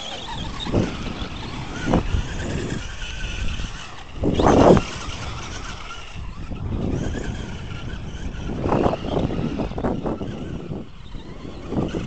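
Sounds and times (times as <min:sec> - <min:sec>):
electric motors whining: 0:00.0 - 0:12.0
rushes of noise: 0:00.0 - 0:12.0.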